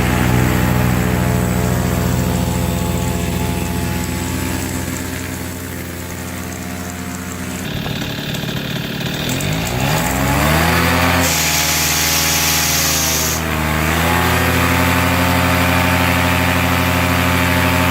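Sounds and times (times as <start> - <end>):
engine buzzing and revving: 0.0 - 17.9.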